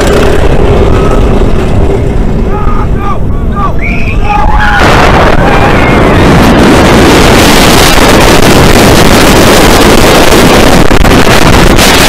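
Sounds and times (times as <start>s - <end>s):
roller coaster rumbling on track: 0.0s - 12.0s
wind blasting over microphone: 0.0s - 12.0s.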